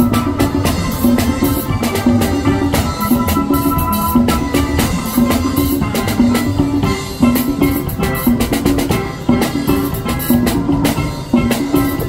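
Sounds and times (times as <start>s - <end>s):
drum kit beat: 0.0s - 12.0s
steelpan melody: 0.0s - 12.0s.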